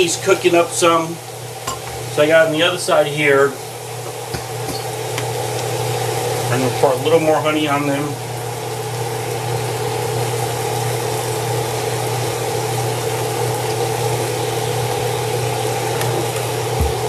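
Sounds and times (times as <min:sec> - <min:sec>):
steaks sizzling in oil: 0:00.0 - 0:17.0.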